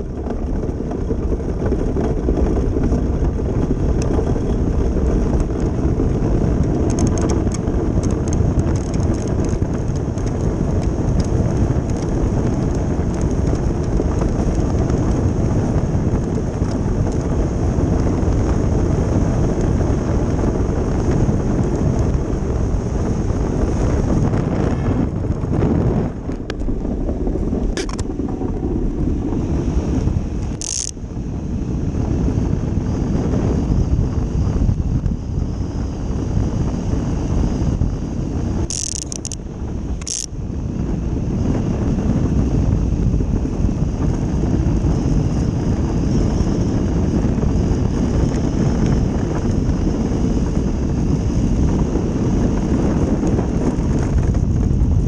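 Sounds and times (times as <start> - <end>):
ice boat runners rumbling on ice: 0.0 - 55.0
wind buffeting microphone: 0.0 - 55.0.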